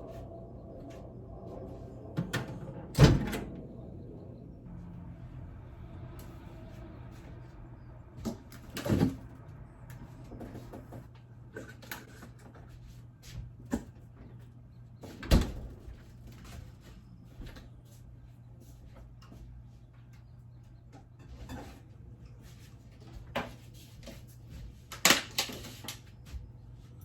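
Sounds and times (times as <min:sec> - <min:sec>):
low steady hum: 0:00.0 - 0:23.3.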